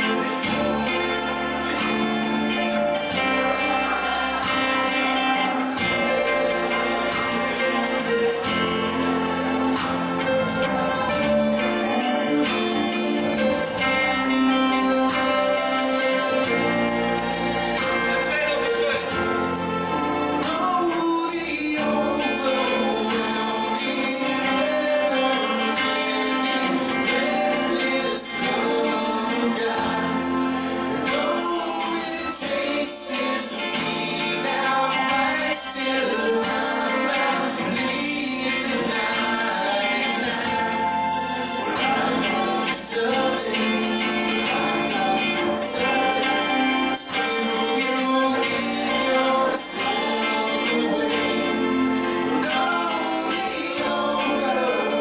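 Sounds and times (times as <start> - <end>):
instrumental accompaniment: 0.0 - 55.0
people singing: 0.0 - 55.0
worship band with guitar and percussion: 0.0 - 55.0.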